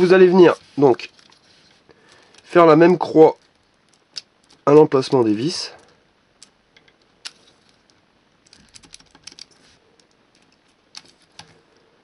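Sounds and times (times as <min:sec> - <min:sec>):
aluminium foil crinkling: 0:00.0 - 0:05.2, 0:07.2 - 0:11.6.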